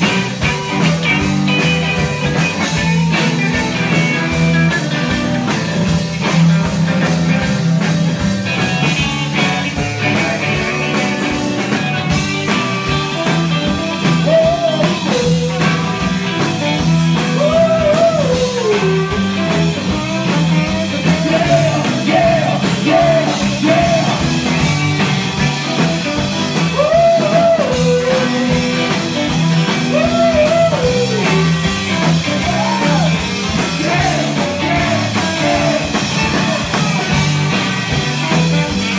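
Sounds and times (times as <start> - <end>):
drums: 0.0 - 38.9
electric bass: 0.0 - 38.9
electric guitar: 0.0 - 38.9.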